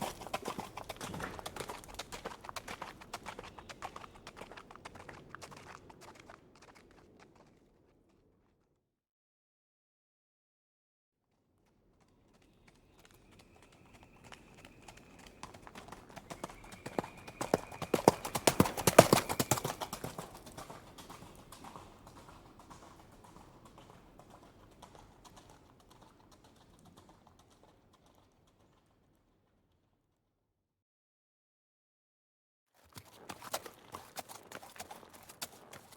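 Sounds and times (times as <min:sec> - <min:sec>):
horse hooves clip-clopping: 0:00.0 - 0:08.7, 0:11.6 - 0:29.5, 0:32.8 - 0:35.9.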